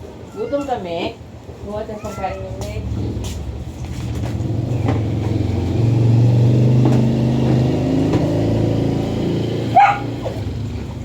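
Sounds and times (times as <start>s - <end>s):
vehicle engine droning: 1.7s - 11.0s.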